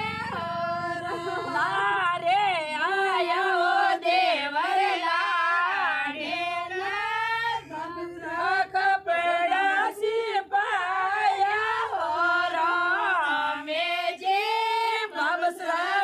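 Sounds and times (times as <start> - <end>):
women singing devotional song: 0.0 - 16.0.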